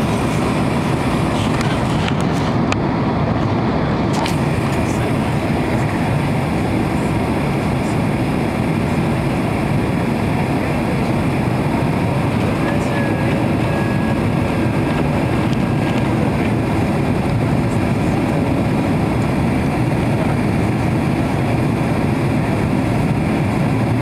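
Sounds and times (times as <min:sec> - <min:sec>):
airliner cabin engine noise: 0:00.0 - 0:24.0.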